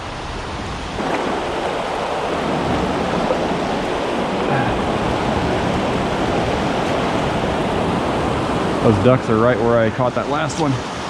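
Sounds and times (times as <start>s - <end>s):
rapids rushing over rocks: 0.0s - 11.0s.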